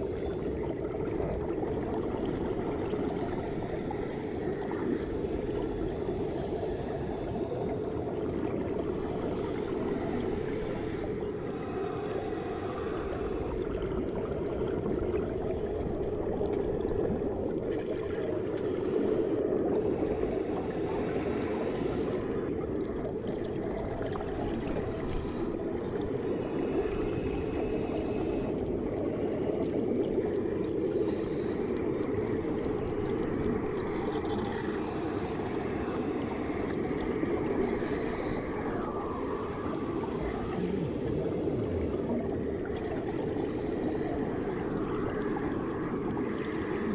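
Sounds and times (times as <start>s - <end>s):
underwater bubbling: 0.0s - 46.9s.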